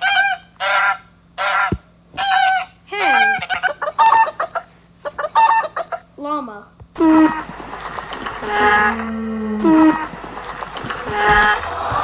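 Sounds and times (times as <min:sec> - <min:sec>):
geese honking: 0:00.0 - 0:06.1, 0:07.0 - 0:12.0.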